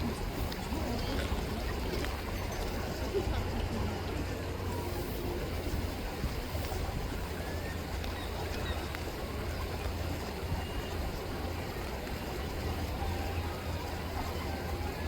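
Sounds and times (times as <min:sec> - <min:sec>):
river water rippling: 0:00.0 - 0:15.0.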